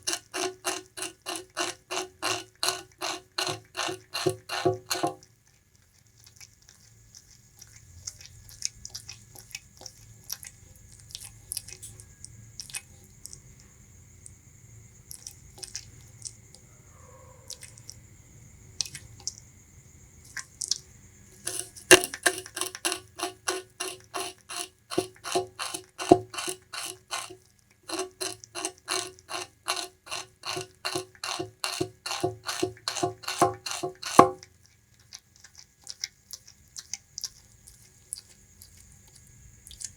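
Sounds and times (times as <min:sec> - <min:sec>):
rodent gnawing and crunching: 0:00.0 - 0:39.9.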